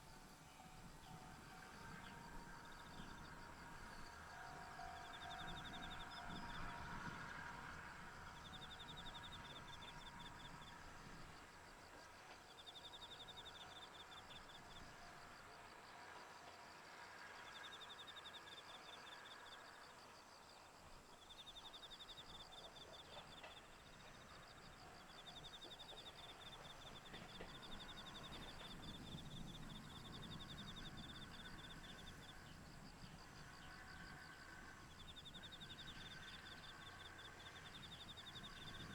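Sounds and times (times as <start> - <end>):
faint steady high trill: 0.0 - 38.9
insects chirping trills: 0.0 - 38.9.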